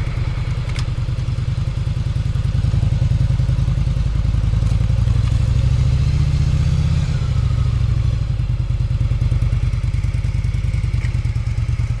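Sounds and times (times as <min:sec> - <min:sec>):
motorcycle engine pulsing exhaust: 0:00.0 - 0:12.0.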